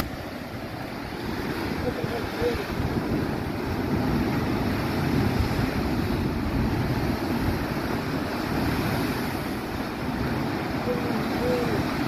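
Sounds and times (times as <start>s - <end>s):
surf breaking on rocks: 0.0s - 12.0s
wind buffeting microphone: 0.0s - 12.0s.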